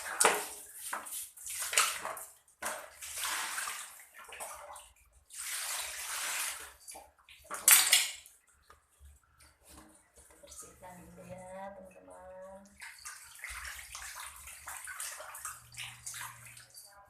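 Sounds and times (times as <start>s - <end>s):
water splashing in a basin: 0.0s - 17.0s.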